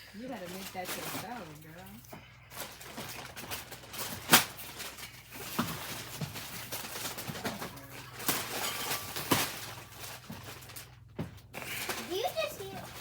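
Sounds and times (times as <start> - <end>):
wrapping paper rustling and crinkling: 0.0 - 13.0.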